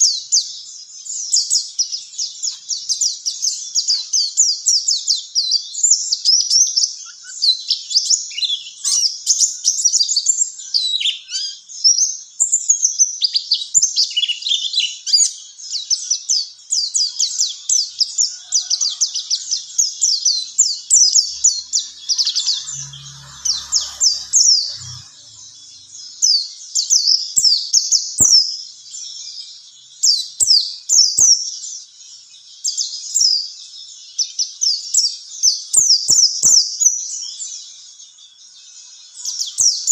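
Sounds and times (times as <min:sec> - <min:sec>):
bird twittering chirps and trills: 0:00.0 - 0:39.9.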